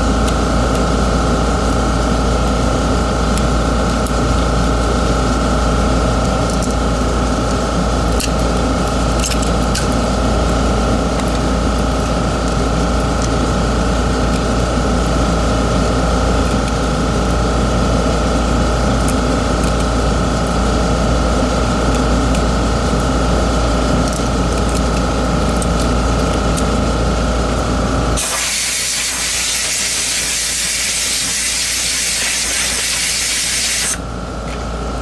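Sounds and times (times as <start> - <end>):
loud mechanical hum: 0.0 - 35.0.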